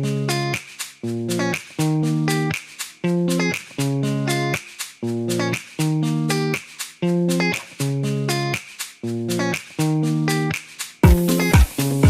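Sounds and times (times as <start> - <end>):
plucked string music loop: 0.0 - 12.0.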